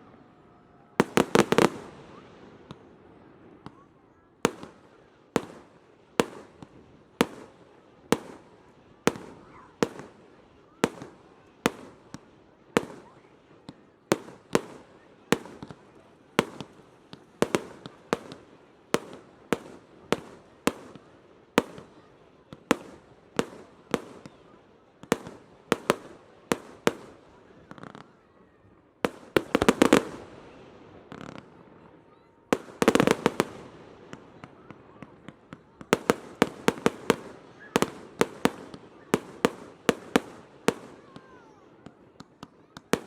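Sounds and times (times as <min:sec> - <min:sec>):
fireworks bursting: 0:01.0 - 0:28.2, 0:29.0 - 0:43.0.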